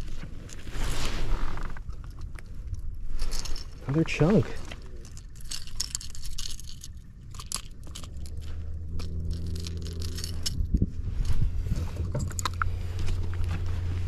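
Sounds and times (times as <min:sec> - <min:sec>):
gear scraping and rattling: 0:00.0 - 0:14.0
steady low hum: 0:00.0 - 0:14.0.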